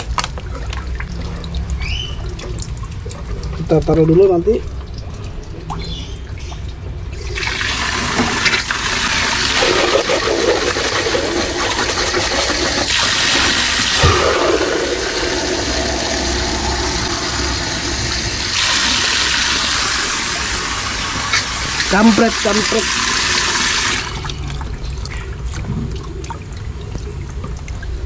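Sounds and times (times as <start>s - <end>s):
water splashing into a container: 0.0s - 28.0s.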